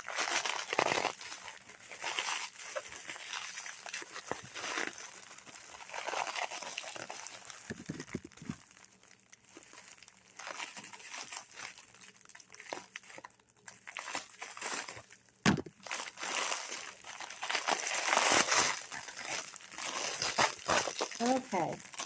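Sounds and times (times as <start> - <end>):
packaging crinkling: 0.0 - 22.0.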